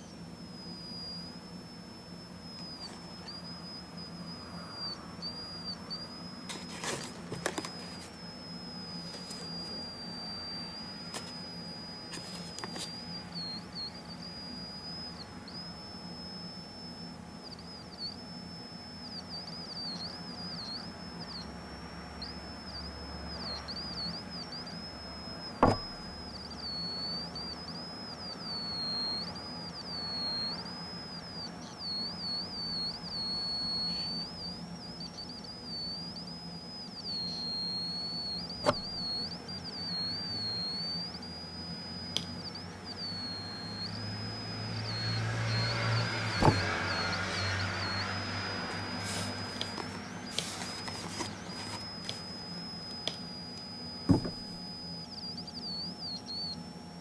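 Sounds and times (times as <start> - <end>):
wavering electronic synth tone: 0.0 - 57.0.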